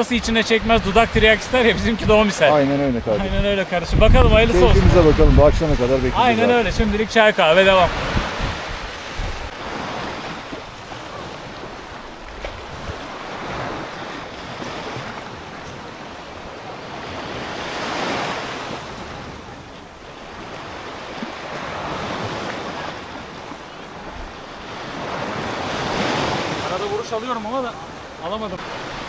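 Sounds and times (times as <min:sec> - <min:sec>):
wind buffeting microphone: 0:00.0 - 0:26.5
sea waves washing onto shore: 0:00.0 - 0:29.0.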